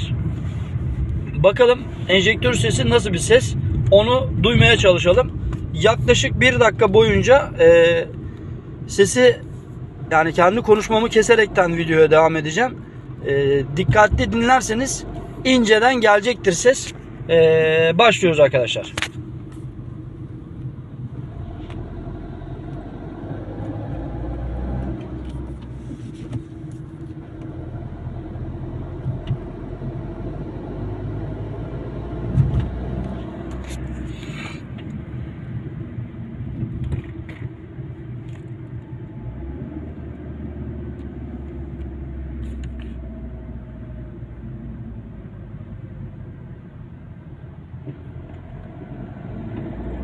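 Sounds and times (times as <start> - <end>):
car engine drone: 0.0 - 50.0
road rumble: 0.0 - 50.0.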